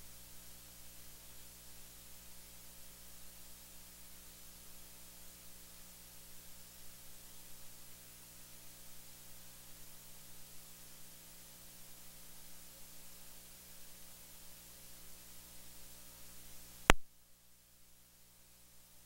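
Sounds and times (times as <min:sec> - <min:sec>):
low electrical hum: 0:00.0 - 0:19.0
steady hiss: 0:00.0 - 0:19.0.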